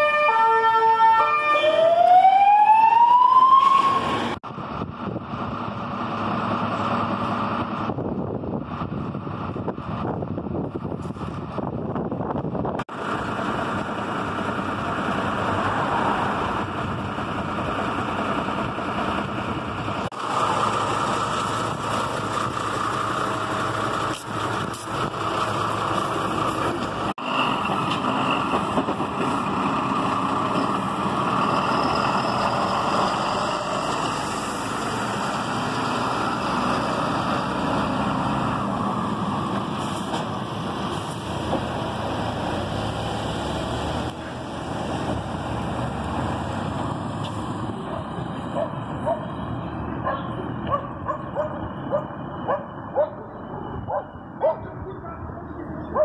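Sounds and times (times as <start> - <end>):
diesel engine running: 4.4 - 56.0.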